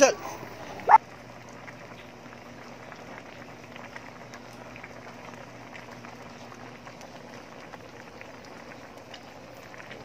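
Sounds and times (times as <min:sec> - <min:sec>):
broth bubbling in metal pan: 0:00.0 - 0:10.0
faint steady hum: 0:00.0 - 0:10.0.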